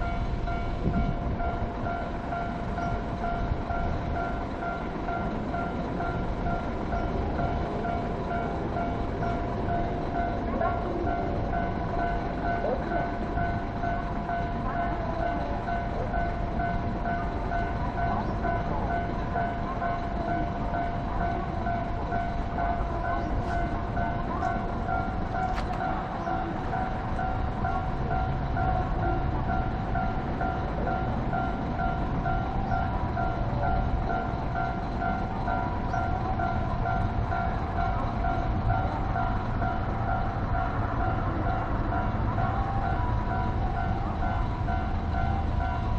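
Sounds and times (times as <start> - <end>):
level-crossing warning bell: 0.0 - 45.9
train rumbling over crossing: 0.0 - 45.9.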